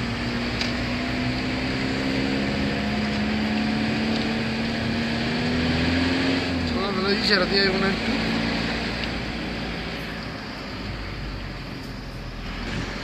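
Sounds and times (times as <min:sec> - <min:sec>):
car engine and tyre drone: 0:00.0 - 0:13.0.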